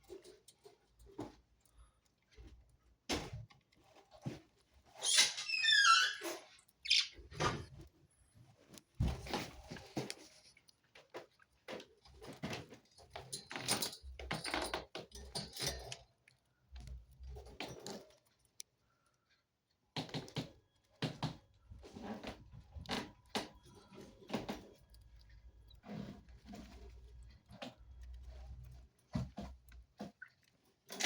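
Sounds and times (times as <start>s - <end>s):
clicks and rustles: 0.0s - 5.4s, 6.2s - 31.0s.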